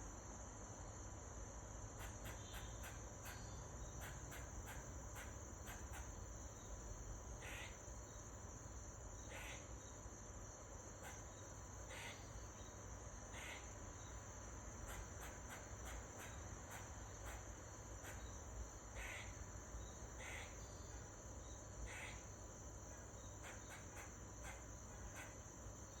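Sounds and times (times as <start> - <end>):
crickets chirping: 0.0 - 26.0
squirrel barking calls: 2.0 - 8.3, 9.2 - 9.8, 10.9 - 21.1, 21.8 - 26.0.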